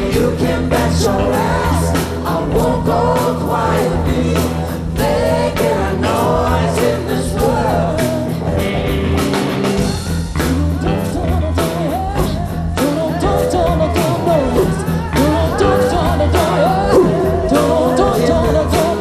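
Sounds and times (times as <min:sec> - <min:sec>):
wordless singing: 0:00.0 - 0:08.7, 0:10.4 - 0:19.0
live rock band playing: 0:00.0 - 0:19.0.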